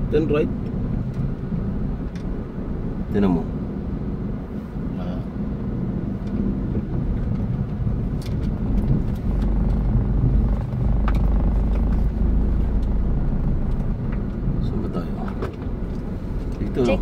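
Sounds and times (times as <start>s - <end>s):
car engine and tyre drone: 0.0s - 17.0s.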